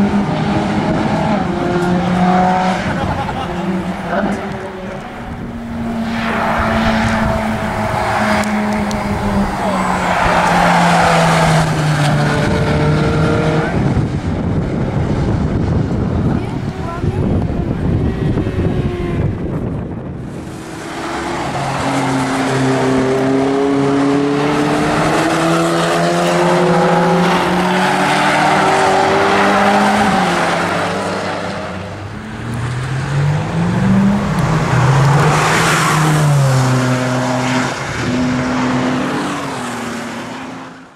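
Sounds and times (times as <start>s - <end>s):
car engines revving hard: 0.0s - 40.9s.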